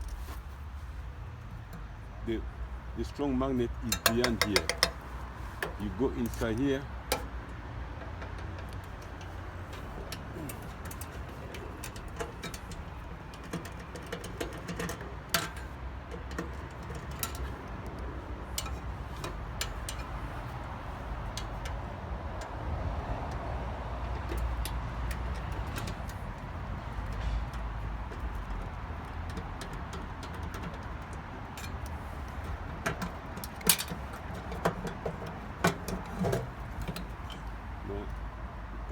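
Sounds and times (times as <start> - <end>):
hand tools clicking on metal: 3.7 - 38.2.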